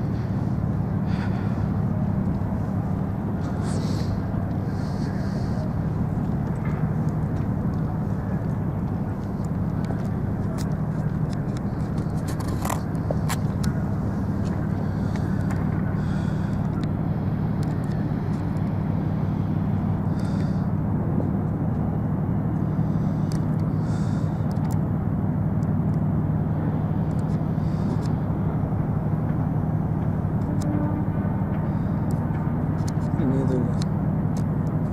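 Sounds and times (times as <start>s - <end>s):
vehicle engine hum: 0.0s - 34.9s.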